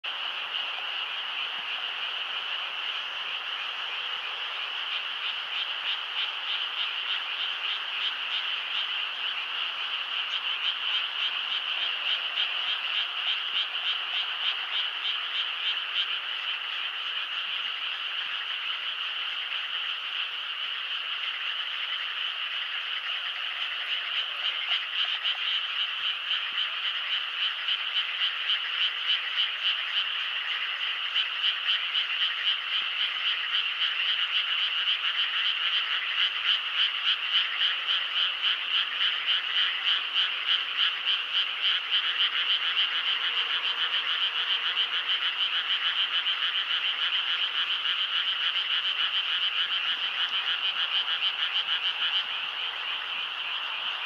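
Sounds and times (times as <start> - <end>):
chorus of frogs croaking: 0.0 - 54.0.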